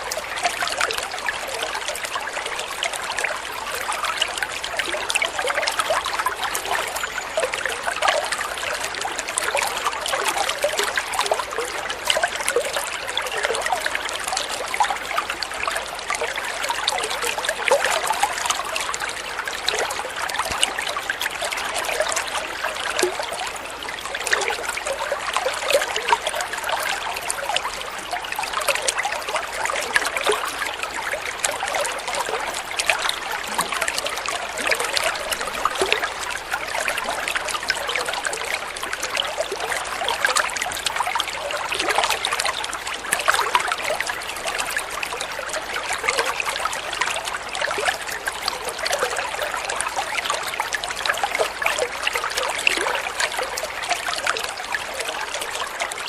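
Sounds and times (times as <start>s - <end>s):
water flowing and trickling: 0.0s - 56.0s.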